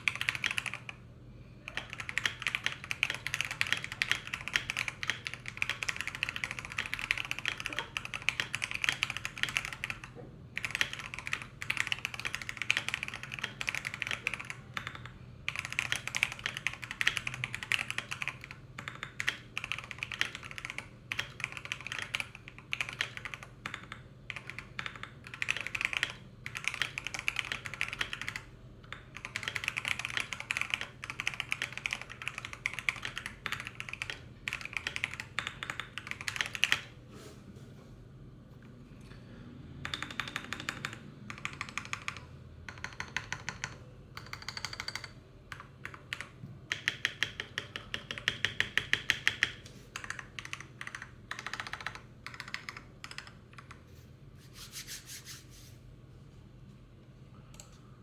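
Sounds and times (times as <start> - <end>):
fast typing on mechanical keyboard: 0.0 - 1.0, 1.6 - 36.9, 39.8 - 53.8.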